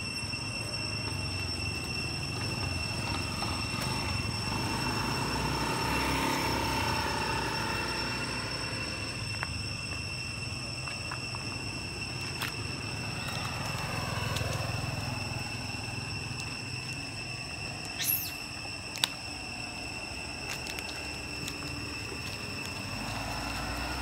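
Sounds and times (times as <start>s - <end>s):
short high squeal: 0.0s - 19.9s
high-pitched whine: 0.0s - 24.0s
vehicle passing rumble: 0.1s - 24.0s.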